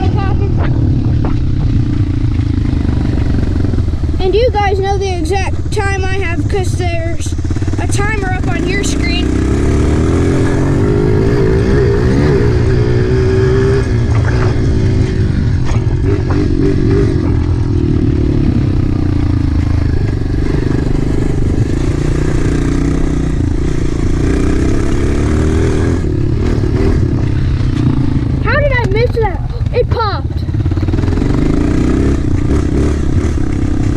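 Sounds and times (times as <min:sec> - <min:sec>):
dirt bike engine running: 0:00.0 - 0:33.9.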